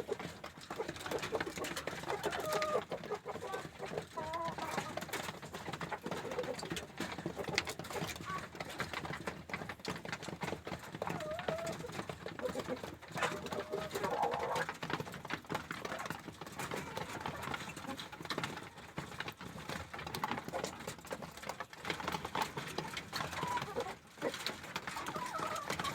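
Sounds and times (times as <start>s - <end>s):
chickens clucking: 0.0s - 25.9s.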